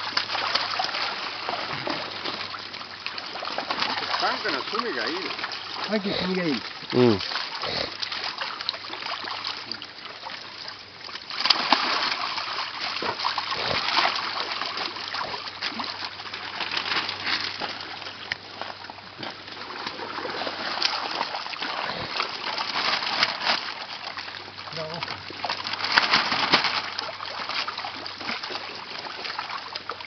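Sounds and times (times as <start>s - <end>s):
fish splashing in water: 0.0s - 30.0s.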